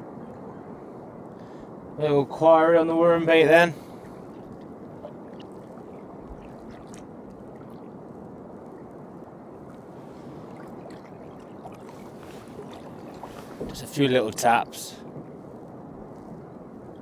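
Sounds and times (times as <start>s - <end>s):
water lapping against a hull: 0.0s - 17.0s.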